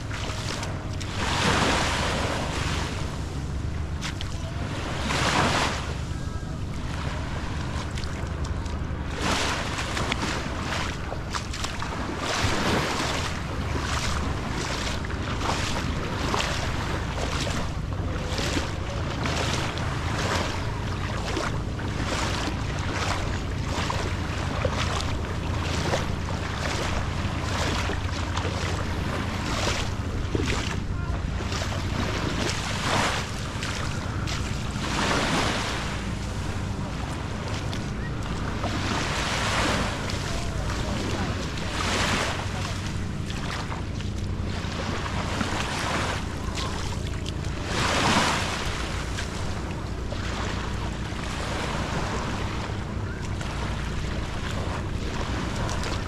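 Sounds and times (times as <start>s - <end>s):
low steady hum: 0.0s - 56.0s
small waves lapping on shore: 0.0s - 56.0s.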